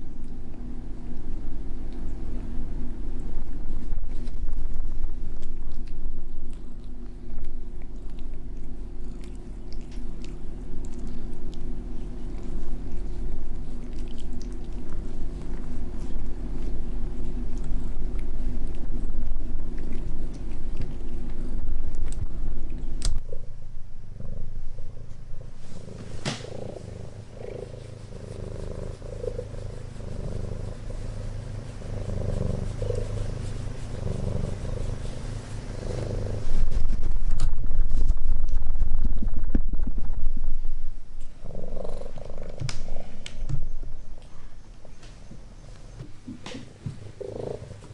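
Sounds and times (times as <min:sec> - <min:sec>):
cat purring: 0:00.0 - 0:44.6, 0:46.3 - 0:47.9.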